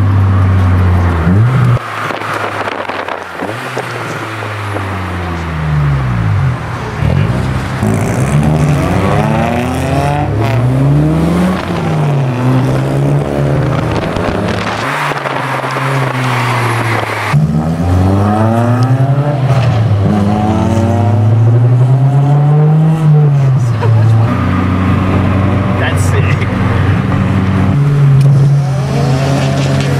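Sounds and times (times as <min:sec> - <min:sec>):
car engine accelerating hard: 0:00.0 - 0:29.9.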